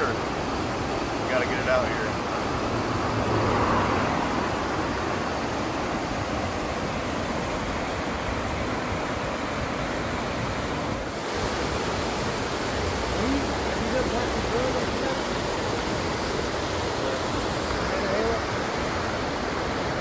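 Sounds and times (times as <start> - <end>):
river rapids rushing over boulders: 0.0 - 20.0.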